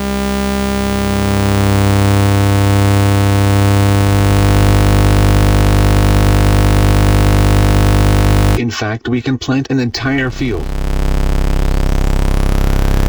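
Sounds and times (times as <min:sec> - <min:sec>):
synthesized buzzing drone: 0:00.0 - 0:08.6, 0:10.4 - 0:13.0.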